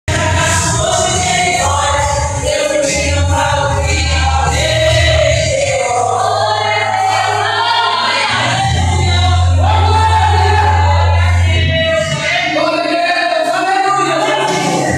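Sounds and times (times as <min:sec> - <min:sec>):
steady bass accompaniment: 0:00.0 - 0:14.9
choir singing a hymn: 0:00.1 - 0:13.0.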